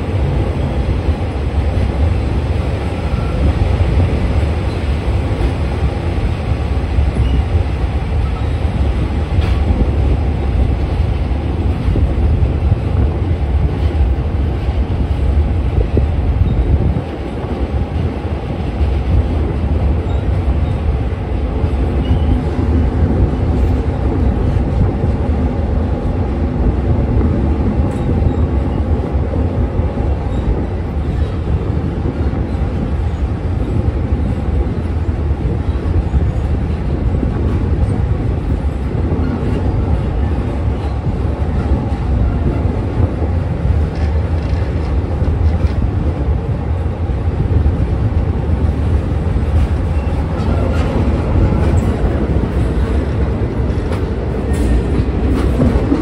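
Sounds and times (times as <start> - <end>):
train rumbling over rails: 0.0 - 56.0.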